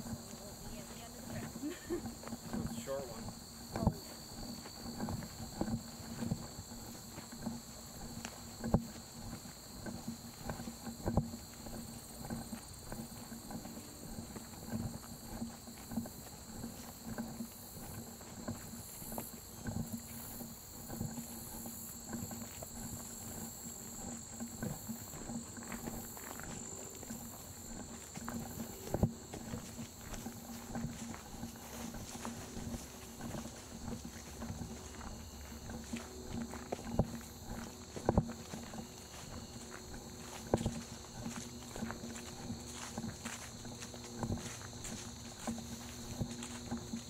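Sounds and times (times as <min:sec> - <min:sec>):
footsteps on dirt trail: 0:00.0 - 0:47.0
steady high-pitched hum: 0:00.0 - 0:47.0.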